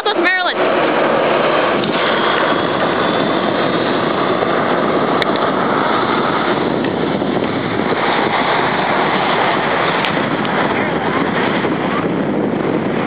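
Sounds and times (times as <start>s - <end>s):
jet airliner passing low: 0.0s - 13.0s.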